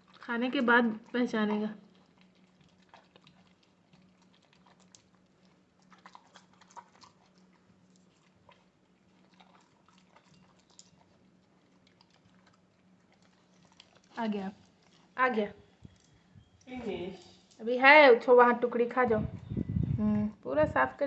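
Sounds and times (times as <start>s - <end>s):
dog crunching a carrot: 0.0s - 17.6s.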